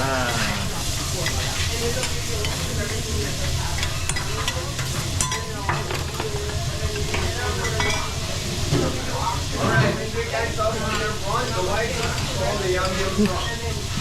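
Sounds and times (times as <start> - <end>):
faint voices: 0.0 - 14.0
food sizzling on a griddle: 0.0 - 14.0.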